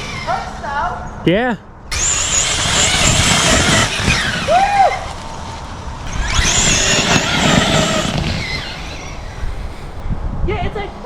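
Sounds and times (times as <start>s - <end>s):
electric motor whining: 0.0s - 0.8s, 1.9s - 10.0s
drivetrain noise: 0.0s - 10.2s.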